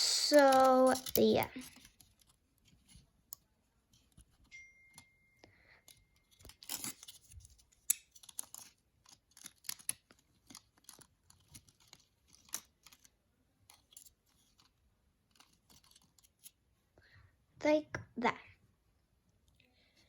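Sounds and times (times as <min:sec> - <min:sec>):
plastic toys clicking and tapping: 0:00.0 - 0:16.6.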